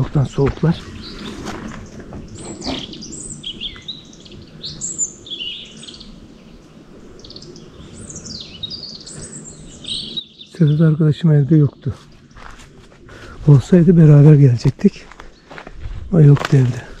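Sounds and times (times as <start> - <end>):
songbirds singing and calling: 0.0 - 17.0.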